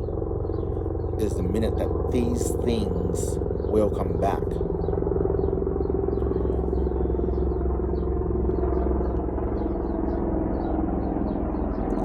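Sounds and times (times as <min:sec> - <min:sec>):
engine rumbling: 0:00.0 - 0:10.7.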